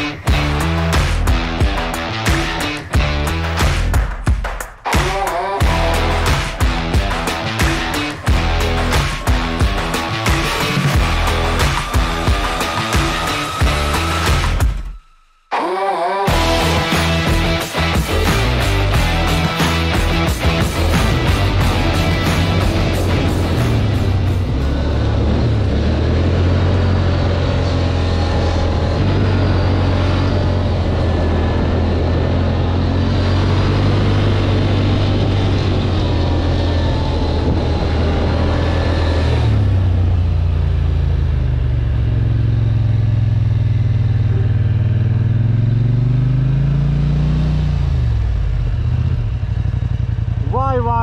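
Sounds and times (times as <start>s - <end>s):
atv engine running: 5.6s - 14.6s, 16.3s - 51.0s.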